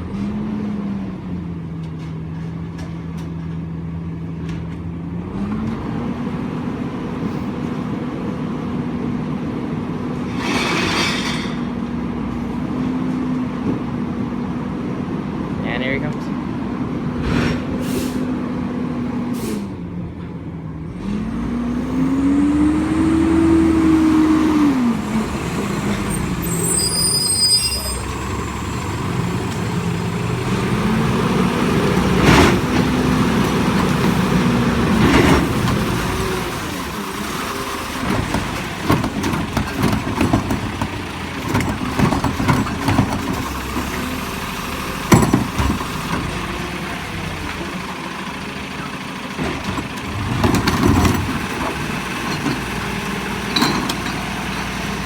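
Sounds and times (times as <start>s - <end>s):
diesel engine revving: 0.0s - 1.8s, 3.8s - 10.7s, 11.3s - 55.0s.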